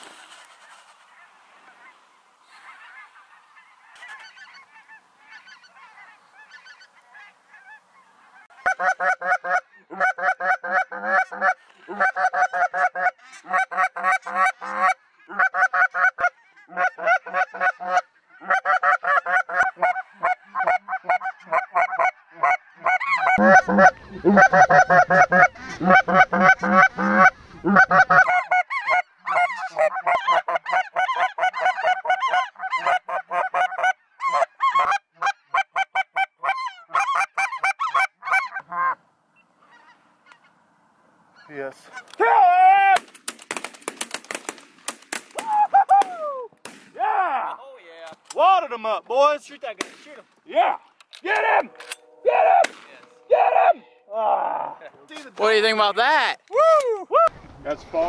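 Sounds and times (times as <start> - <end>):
geese honking: 0.4 - 42.2, 51.2 - 56.0.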